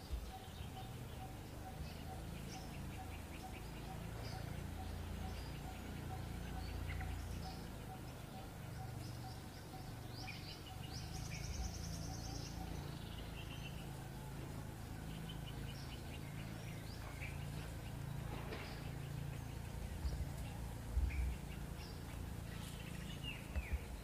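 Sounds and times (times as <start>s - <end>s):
bird trill: 0.0s - 24.0s
high chirping calls: 0.0s - 24.0s
low steady rumble: 0.0s - 24.0s.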